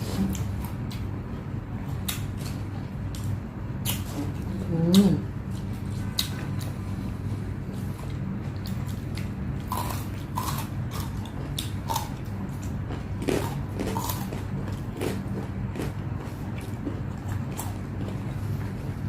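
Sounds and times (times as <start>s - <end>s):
steady low hum: 0.0s - 19.0s
chewing and mouth sounds: 1.8s - 7.0s, 7.7s - 19.0s.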